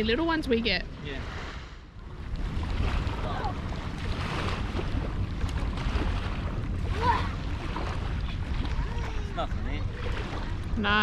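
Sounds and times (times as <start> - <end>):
wind buffeting microphone: 0.0 - 11.0
surf washing on beach: 0.5 - 11.0.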